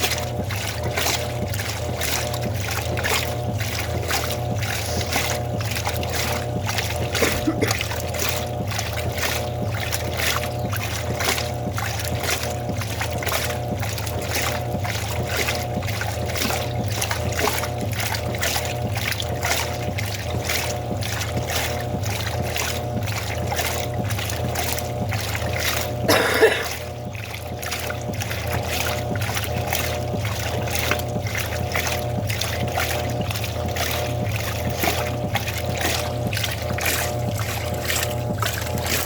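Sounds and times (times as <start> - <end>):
washing machine motor hum: 0.0 - 39.0
water sloshing: 0.0 - 39.0
water splash: 0.0 - 39.0.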